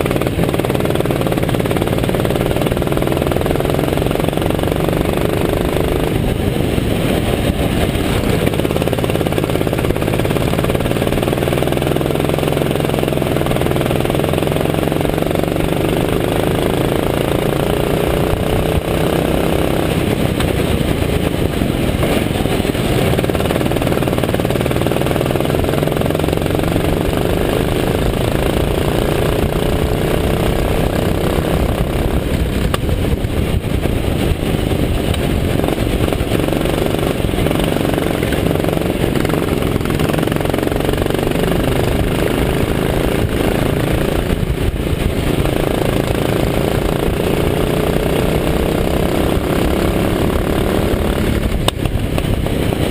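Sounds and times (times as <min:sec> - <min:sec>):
go-kart engine running hard: 0:00.0 - 0:52.9
wind noise: 0:00.0 - 0:52.9.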